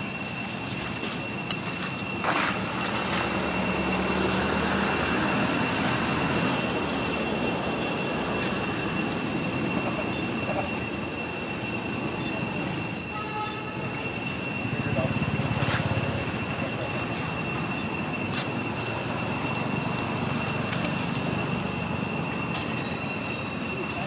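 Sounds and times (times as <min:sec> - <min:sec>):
high-pitched drone: 0:00.0 - 0:24.0.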